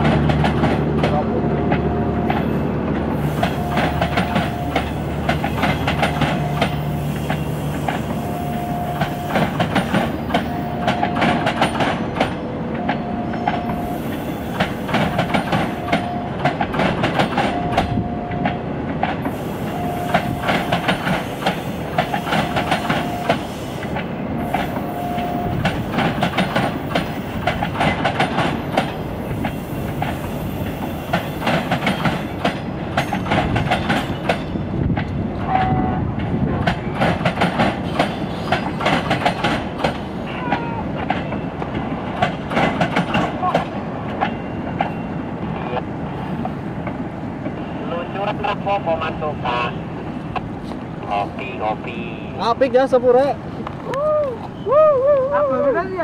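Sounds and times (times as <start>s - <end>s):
train wheels clattering: 0.0s - 45.2s.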